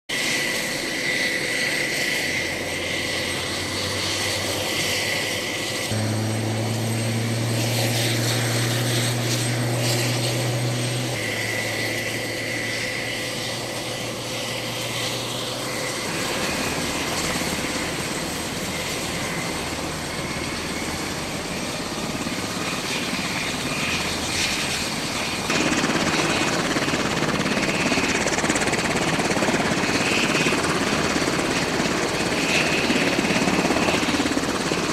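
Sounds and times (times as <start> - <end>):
helicopter turbine whine: 0.1 - 34.9
low rotor hum: 0.2 - 34.9.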